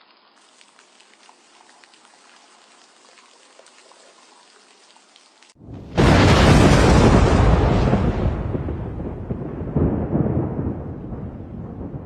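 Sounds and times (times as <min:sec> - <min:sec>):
faint rain pattering: 0:00.0 - 0:12.0.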